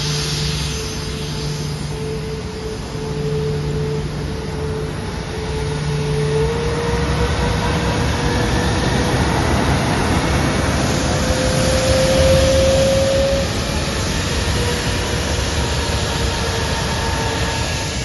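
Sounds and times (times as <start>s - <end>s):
jet engine whine: 0.0s - 18.0s
jet engines roaring: 0.0s - 18.0s.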